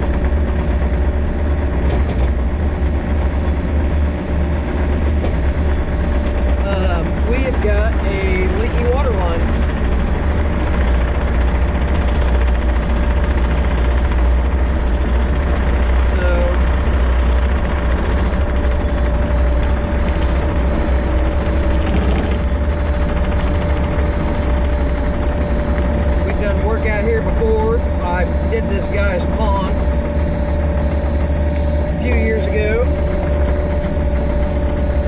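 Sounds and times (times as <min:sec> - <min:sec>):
engine low drone: 0:00.0 - 0:35.0
engine whine: 0:00.0 - 0:35.0.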